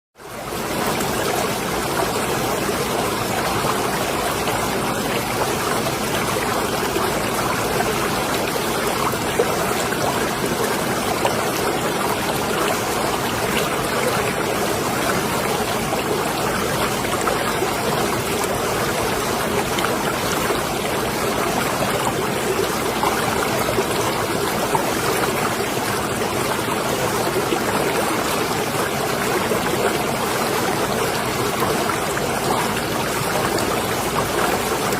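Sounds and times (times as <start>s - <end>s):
water lapping and trickling: 0.2s - 34.9s.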